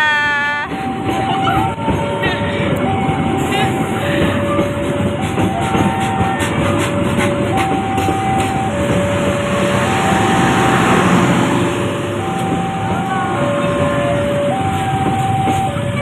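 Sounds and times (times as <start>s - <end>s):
passing train rumble: 0.0s - 16.0s
wheels clicking over rail joints: 0.0s - 16.0s
level crossing two-tone alarm: 0.7s - 16.0s.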